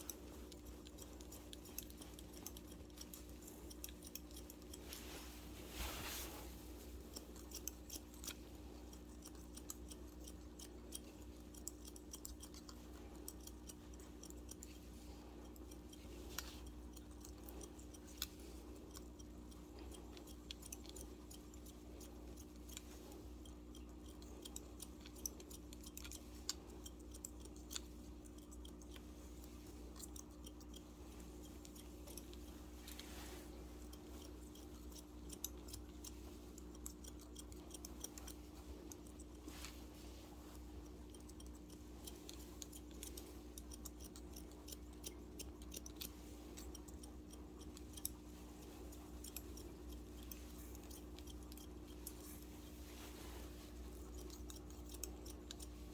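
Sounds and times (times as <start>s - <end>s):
scissors snipping hair: 0.0s - 55.9s
steady low hum: 0.0s - 55.9s.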